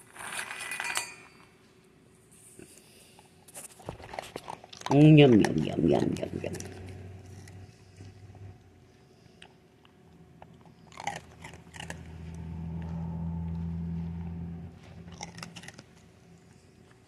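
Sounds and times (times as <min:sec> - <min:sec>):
low steady hum: 0:00.0 - 0:17.0
dog chewing and crunching food: 0:02.6 - 0:17.0.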